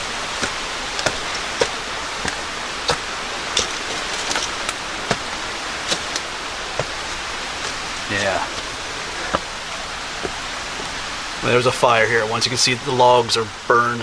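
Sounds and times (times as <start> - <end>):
footsteps climbing steps: 0.0 - 12.7
steady rushing hiss: 0.0 - 14.0.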